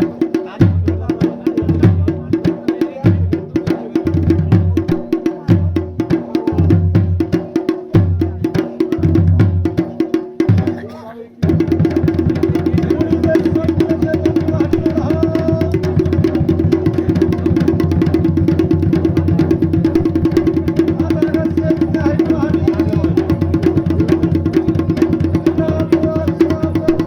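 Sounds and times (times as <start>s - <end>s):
drums playing fast rhythm: 0.0s - 27.0s.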